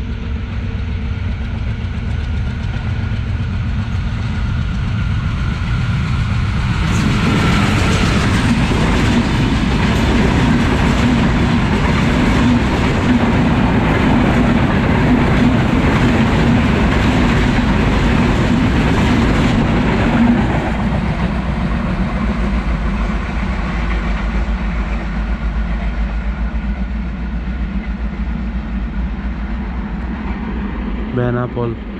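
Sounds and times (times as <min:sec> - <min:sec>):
train passing at speed: 0:00.0 - 0:31.9.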